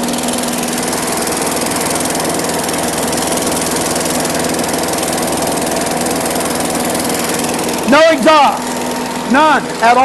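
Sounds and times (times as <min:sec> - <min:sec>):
lawnmower engine idling: 0:00.0 - 0:10.0.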